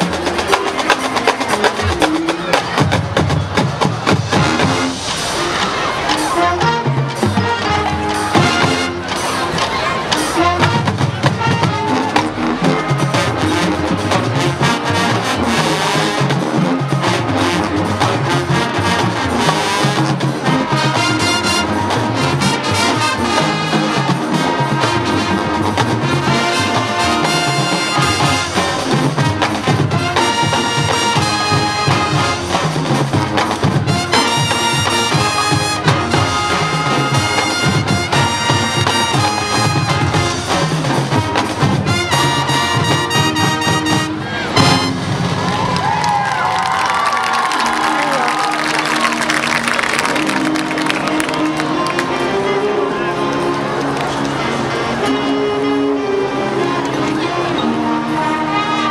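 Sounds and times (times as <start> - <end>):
marching drumline: 0.0 - 52.0
brass section playing chords: 4.2 - 45.5, 48.0 - 58.9.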